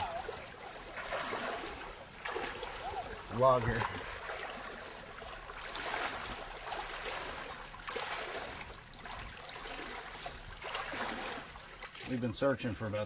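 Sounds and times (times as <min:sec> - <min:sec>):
legs wading through water: 0:00.0 - 0:13.0.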